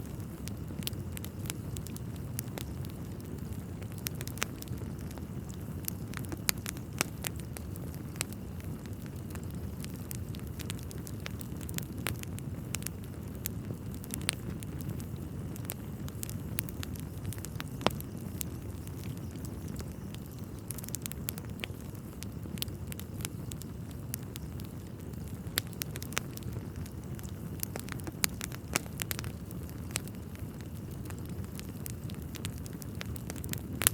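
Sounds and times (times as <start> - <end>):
logs crackling and popping: 0.0 - 33.9
low rumble of flames: 0.0 - 33.9.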